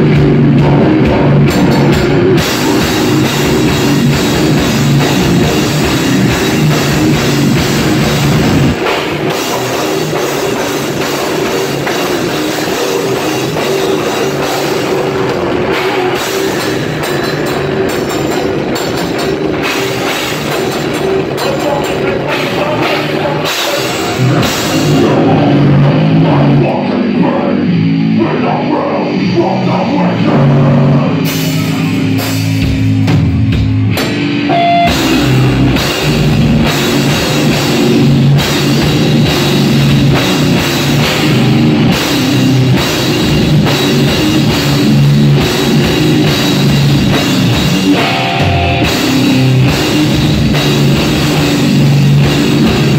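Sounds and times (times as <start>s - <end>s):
deep bass: 0.0s - 52.9s
distorted electric guitar: 0.0s - 52.9s
drum kit: 0.0s - 52.9s.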